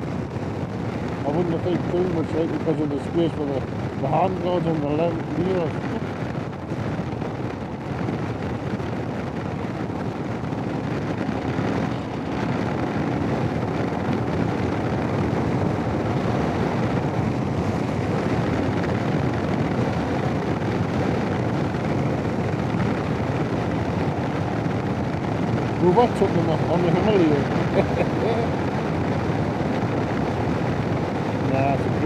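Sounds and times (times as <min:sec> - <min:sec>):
wind rush on microphone: 0:00.0 - 0:32.0.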